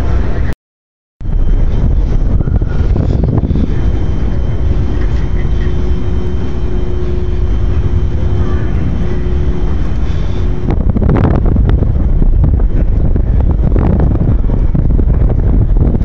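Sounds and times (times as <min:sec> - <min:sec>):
loud low rumble: 0:00.0 - 0:00.5, 0:01.2 - 0:16.0
faint steady hum: 0:01.2 - 0:16.0
wind buffeting microphone: 0:01.2 - 0:16.0.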